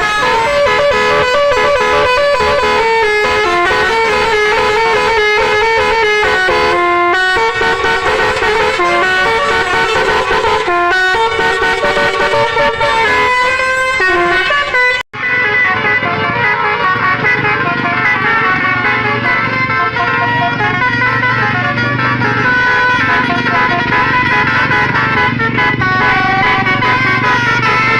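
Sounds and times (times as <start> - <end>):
bus horns playing melodic runs: 0.0 - 27.9.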